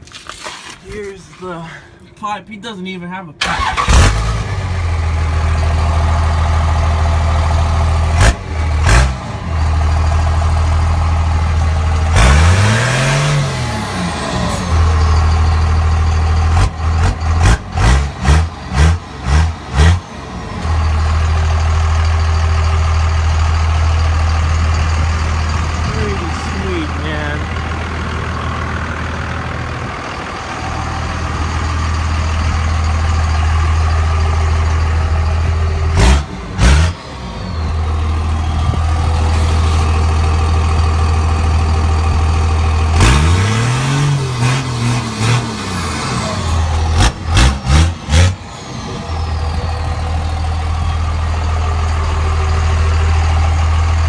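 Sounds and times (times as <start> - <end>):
diesel engine idling and revving: 3.3 - 54.0.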